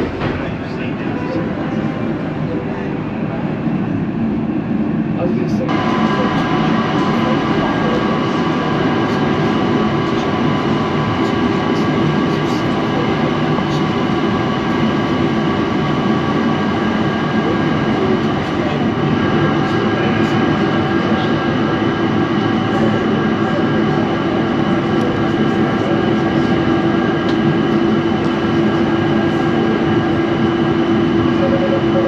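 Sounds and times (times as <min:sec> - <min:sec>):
constant humming tones: 0:00.0 - 0:32.0
funicular railway rumbling: 0:00.0 - 0:32.0.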